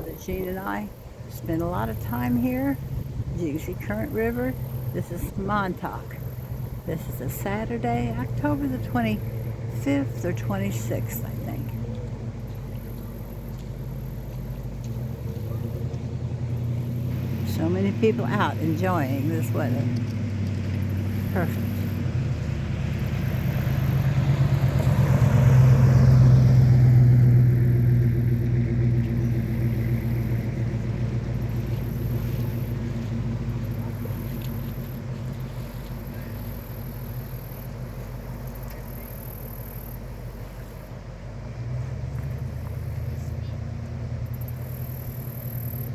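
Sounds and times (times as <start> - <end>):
car engine droning: 0.0 - 45.9
road noise: 0.0 - 45.9.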